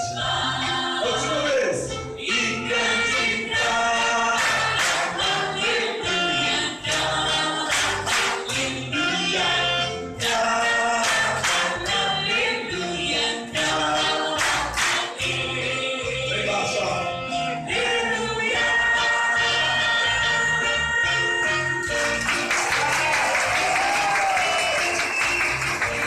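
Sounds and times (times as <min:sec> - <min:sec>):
amplified singing: 0:00.0 - 0:23.0.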